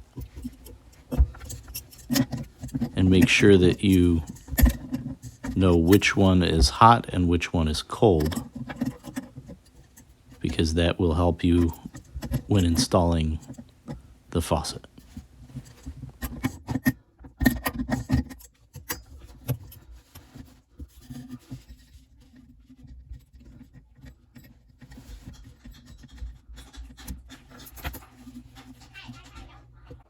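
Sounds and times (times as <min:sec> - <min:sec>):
hand tools clicking and knocking on metal: 0:00.0 - 0:30.0
rubbing and scratching: 0:00.0 - 0:30.0.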